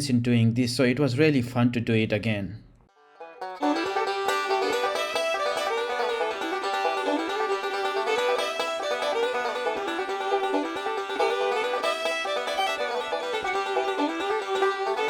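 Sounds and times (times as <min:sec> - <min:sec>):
plucked-string bluegrass instrumental: 0:02.9 - 0:15.0.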